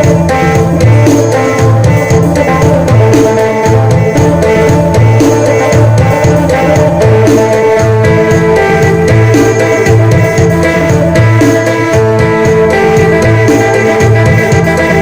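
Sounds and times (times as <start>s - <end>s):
drum kit and bass beat: 0.0s - 15.0s
lute melody: 0.0s - 15.0s.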